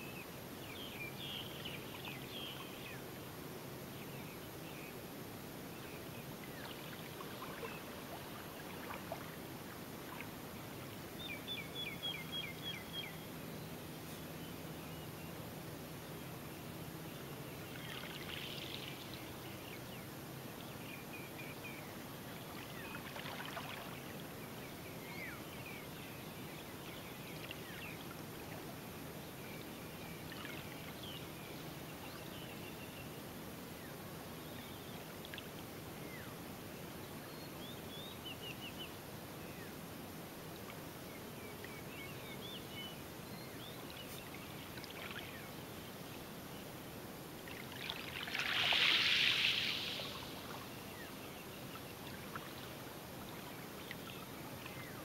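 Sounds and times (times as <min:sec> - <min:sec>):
calm sea lapping at shore: 0:00.0 - 0:55.0.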